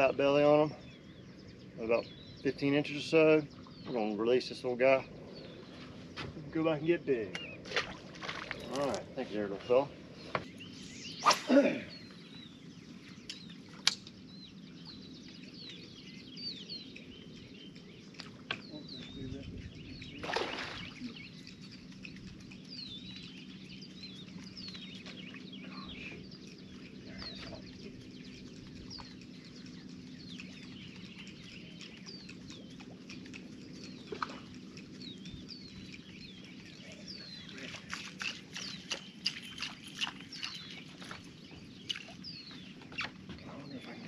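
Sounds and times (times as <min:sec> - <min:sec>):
low steady hum: 0:00.0 - 0:44.0
marsh birds chirping: 0:00.0 - 0:44.0.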